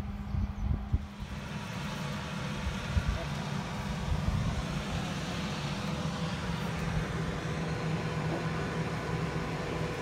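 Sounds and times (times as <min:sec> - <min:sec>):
combine harvester engine drone: 0:00.0 - 0:10.0.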